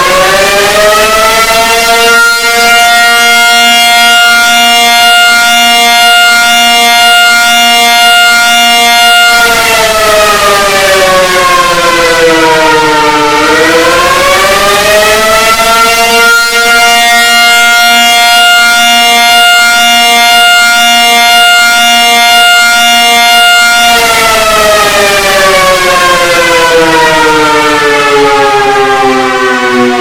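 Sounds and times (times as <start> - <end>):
civil defense siren wailing: 0.0 - 30.0.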